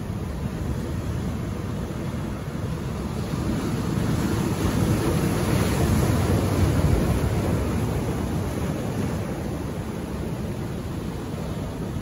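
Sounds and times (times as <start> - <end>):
ocean surf crashing on rocks: 0.0 - 12.0.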